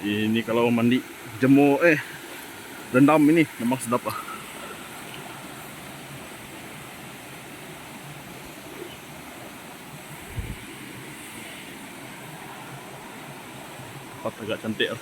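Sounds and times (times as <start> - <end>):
waterfall and river rushing: 0.0 - 15.0.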